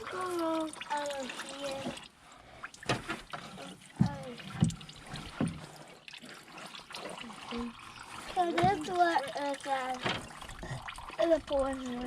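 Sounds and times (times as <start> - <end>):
coolant trickling and splashing: 0.0 - 12.0.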